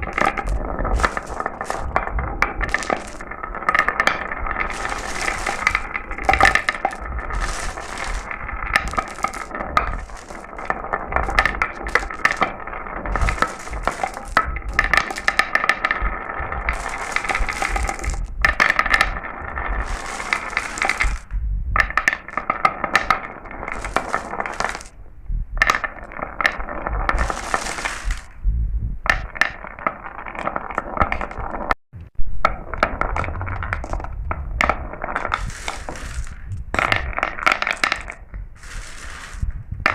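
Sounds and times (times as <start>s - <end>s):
marbles rolling and clattering: 0.0s - 28.4s, 29.0s - 31.8s, 32.4s - 39.9s
ringing hum of rolling marbles: 0.0s - 28.4s, 29.0s - 31.8s, 32.4s - 39.9s.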